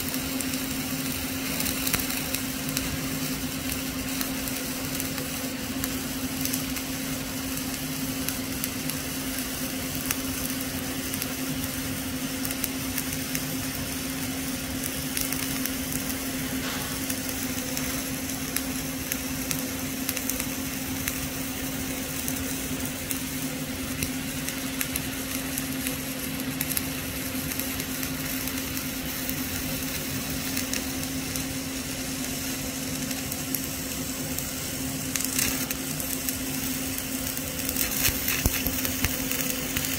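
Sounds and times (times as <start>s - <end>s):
welding arc crackling and sizzling: 0.0s - 39.9s.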